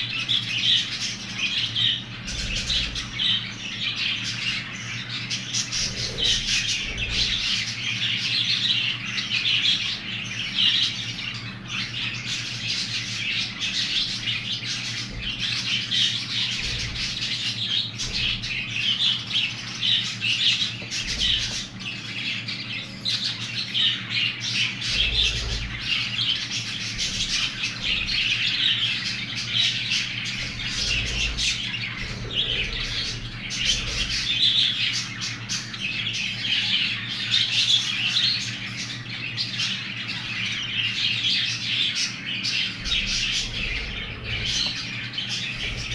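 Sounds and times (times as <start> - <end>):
bird chicks chirping: 0.0 - 45.9
steady low hum: 0.0 - 45.9.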